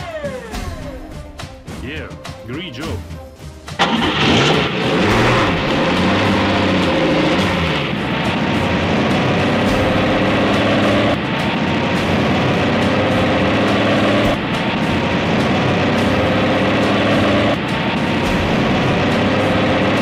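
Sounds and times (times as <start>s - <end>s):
road roller engine running: 3.6s - 20.0s.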